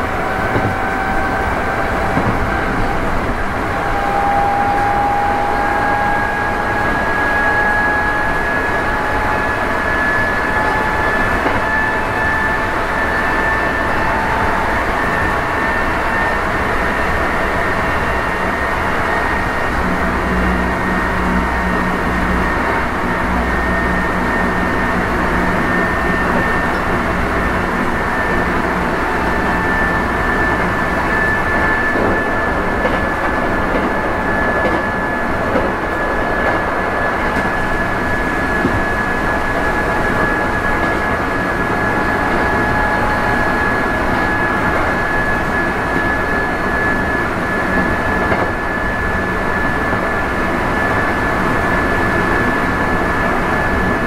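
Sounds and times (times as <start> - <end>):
train motor whine: 0.0 - 54.0
train wheels rumbling on rails: 0.0 - 54.0.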